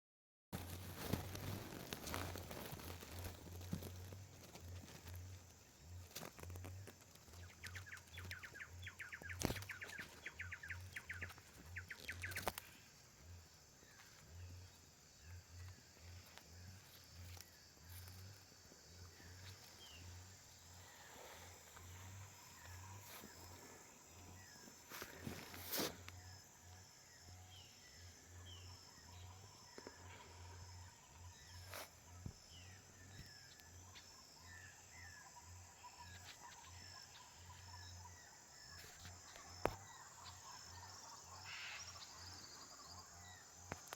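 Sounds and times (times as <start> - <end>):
faint bird chirps: 2.0 - 43.9.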